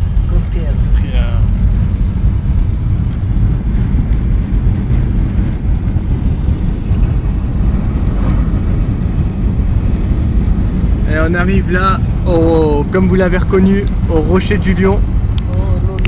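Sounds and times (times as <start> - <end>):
car road rumble from inside: 0.0 - 16.0
tyre and engine noise: 0.0 - 16.0.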